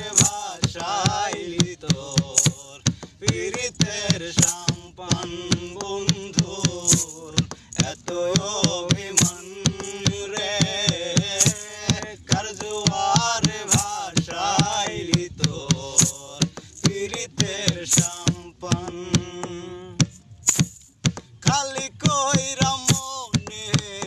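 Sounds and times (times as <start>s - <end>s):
hand slaps on plastic jerrycan: 0.0s - 18.6s, 20.0s - 24.0s
man singing folk song: 0.0s - 20.6s, 21.2s - 24.0s.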